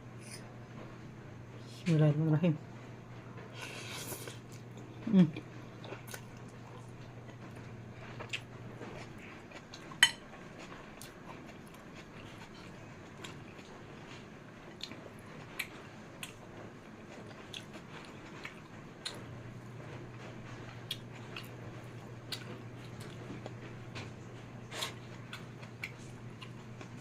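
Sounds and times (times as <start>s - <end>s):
soft chewing: 3.1s - 27.0s.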